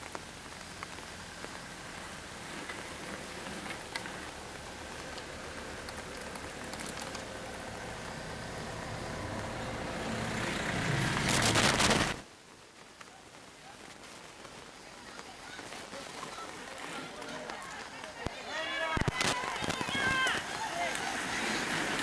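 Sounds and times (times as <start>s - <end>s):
vehicle passing on wet road: 0.0s - 12.3s, 14.0s - 22.0s.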